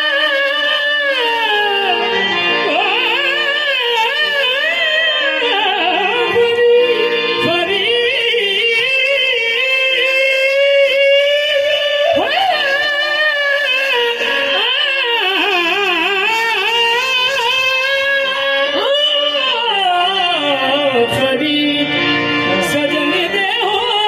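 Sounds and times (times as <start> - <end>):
harmonium drone: 0.0 - 24.0
man singing ornamented lines: 0.0 - 24.0.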